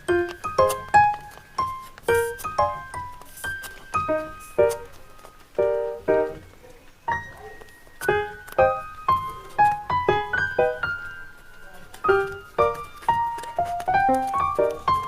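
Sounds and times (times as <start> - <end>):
piano-like keyboard melody: 0.0 - 15.0.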